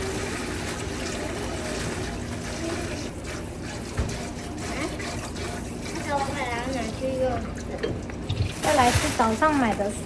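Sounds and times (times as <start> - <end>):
tap water running into sink: 0.0 - 9.9.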